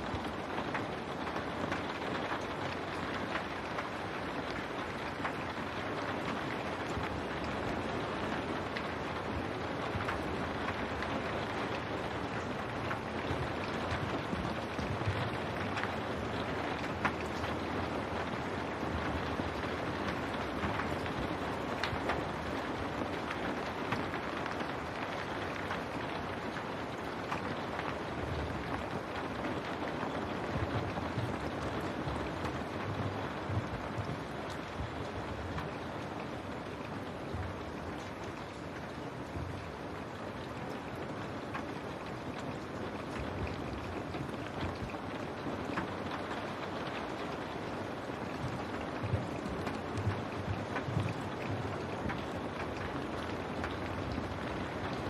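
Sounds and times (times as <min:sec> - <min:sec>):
rain on window glass: 0:00.0 - 0:55.0.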